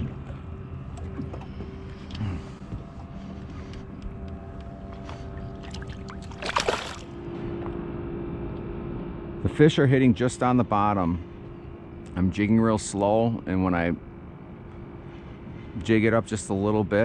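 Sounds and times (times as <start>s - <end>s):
boat motor running: 0.0s - 17.0s.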